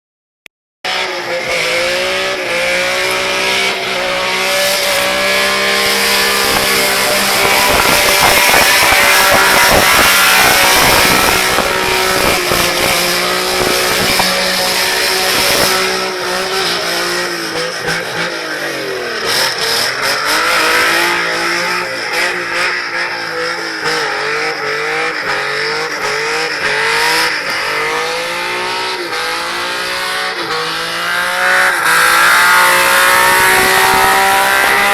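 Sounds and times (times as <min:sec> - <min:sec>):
car engine revving: 0:00.9 - 0:34.9.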